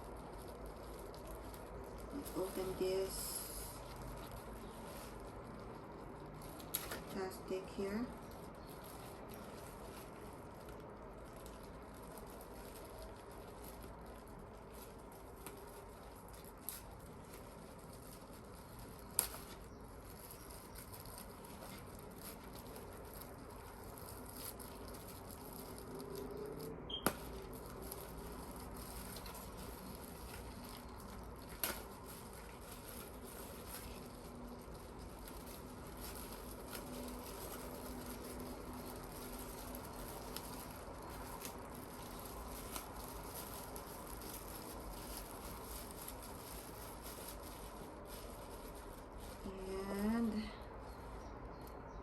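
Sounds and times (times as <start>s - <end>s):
moss rustling pulled off roots: 0.0s - 51.9s
plastic wrapper crackling: 0.0s - 52.0s.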